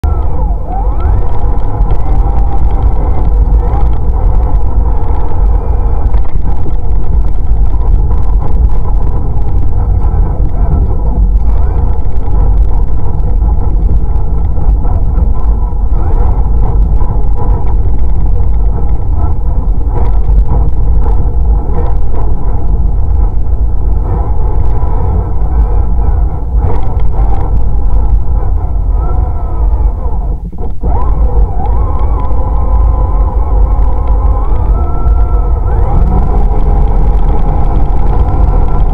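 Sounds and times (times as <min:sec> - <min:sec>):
wheels rumbling on pavement: 0:00.0 - 0:38.9.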